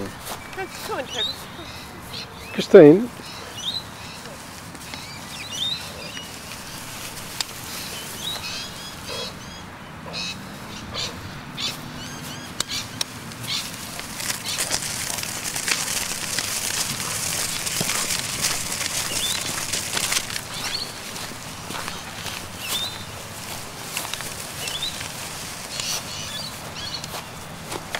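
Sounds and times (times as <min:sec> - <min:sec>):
dense crackling rustle: 0:00.0 - 0:09.1, 0:12.6 - 0:27.9
small birds chirping: 0:00.0 - 0:27.9.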